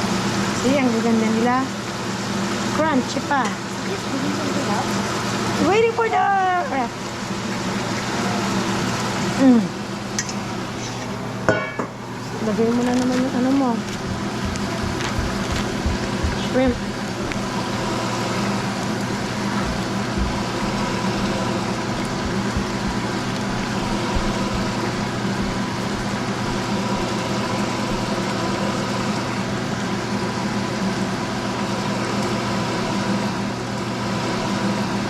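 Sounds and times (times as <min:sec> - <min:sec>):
shrimp sizzling in hot oil: 0:00.0 - 0:29.7
constant motor hum: 0:00.0 - 0:35.0.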